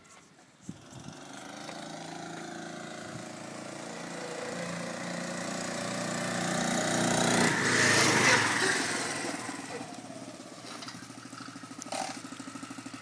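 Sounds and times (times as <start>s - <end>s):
small engine starting and running: 0.6s - 13.0s.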